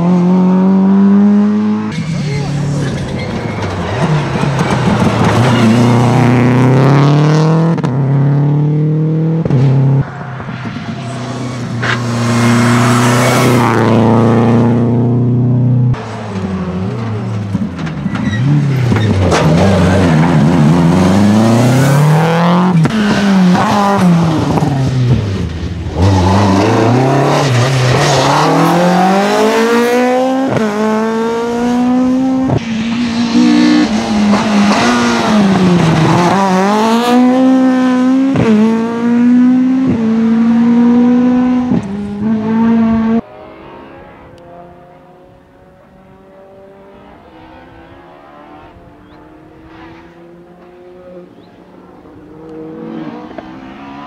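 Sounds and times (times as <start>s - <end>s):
rally car engines revving through gears: 0.0s - 54.0s.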